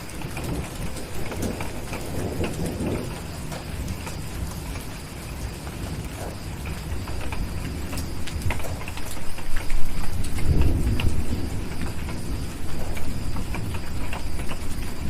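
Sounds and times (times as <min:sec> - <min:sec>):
distant thunder rumbling: 0:00.0 - 0:15.0
steady rain: 0:00.0 - 0:15.0.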